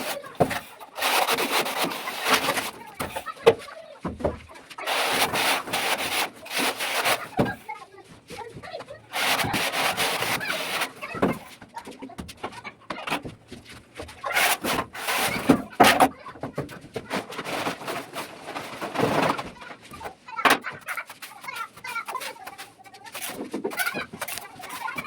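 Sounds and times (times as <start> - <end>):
chickens clucking: 0.0 - 13.3, 14.1 - 25.0
scraping and knocking: 0.0 - 25.0.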